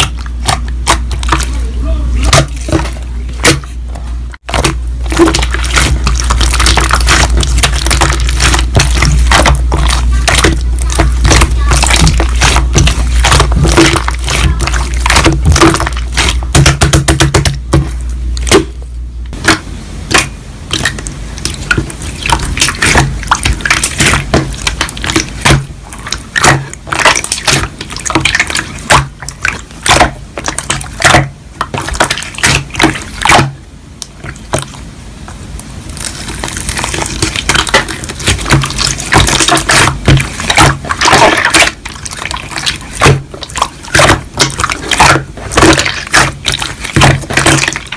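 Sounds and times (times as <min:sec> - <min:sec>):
slime squished by hand: 0:04.4 - 0:18.8, 0:19.4 - 0:47.9.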